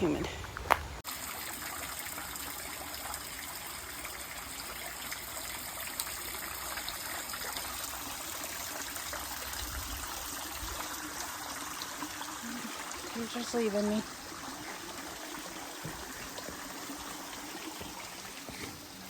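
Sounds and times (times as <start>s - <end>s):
creek water trickling: 0.0s - 19.0s.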